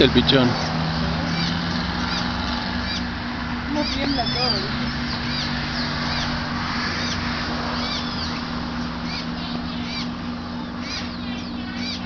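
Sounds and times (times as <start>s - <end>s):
steady low hum: 0.0s - 12.0s
fledgling bird begging chirps: 0.5s - 12.0s.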